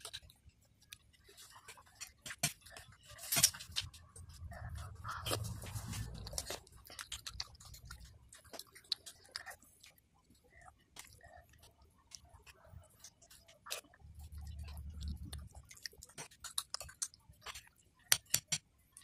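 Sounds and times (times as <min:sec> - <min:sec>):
soft eating sounds: 0:00.0 - 0:19.0.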